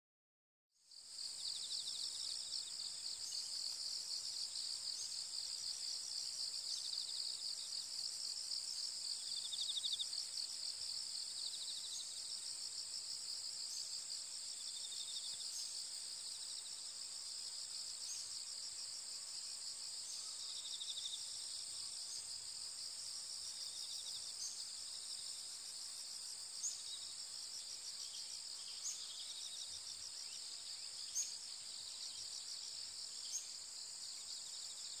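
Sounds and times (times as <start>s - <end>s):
insect chirps: 0.8s - 35.0s.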